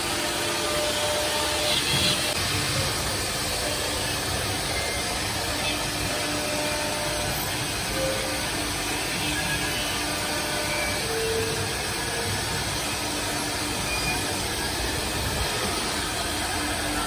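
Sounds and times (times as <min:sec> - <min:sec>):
machinery running drone: 0:00.0 - 0:17.0.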